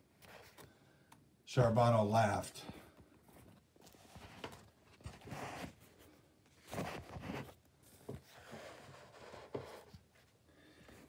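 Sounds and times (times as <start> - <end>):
hardback book being handled: 0.1 - 0.8, 2.6 - 11.0.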